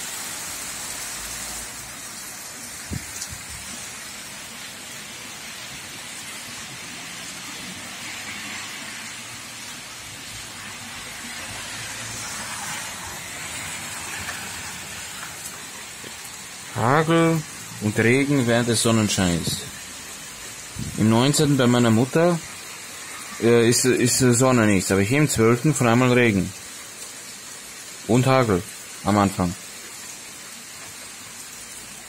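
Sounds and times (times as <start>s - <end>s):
heavy rain and hail: 0.0s - 32.0s.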